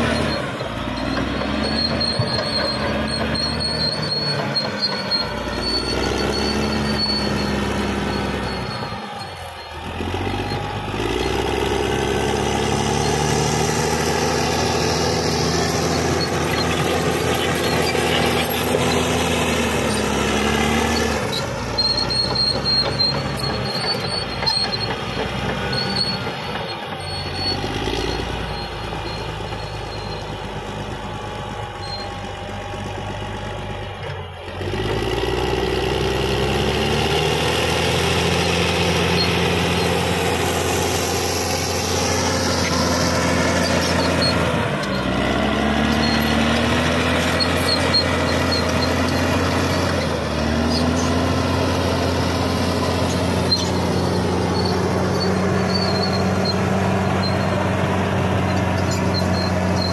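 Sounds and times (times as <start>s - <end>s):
bulldozer diesel engine revving: 0.0s - 59.9s.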